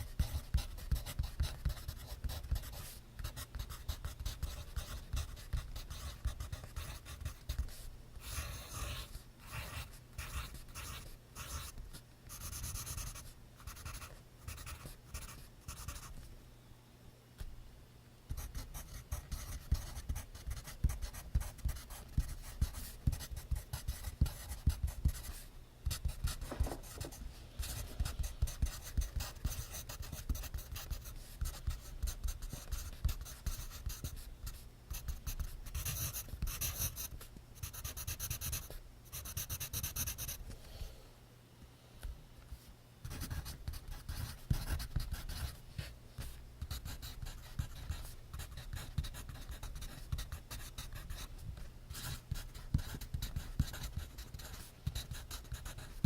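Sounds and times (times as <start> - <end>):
pencil scratching on paper: 0.1 - 16.1, 18.4 - 40.4, 43.1 - 56.0.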